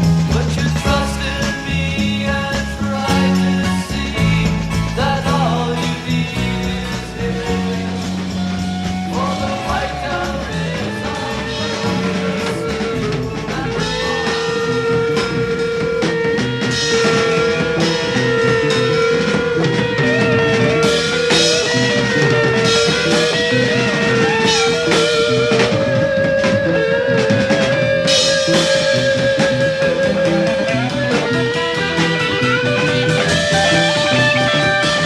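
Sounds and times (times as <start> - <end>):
drum kit: 0.0 - 35.0
guitars: 0.0 - 35.0
psychedelic rock music: 0.0 - 35.0.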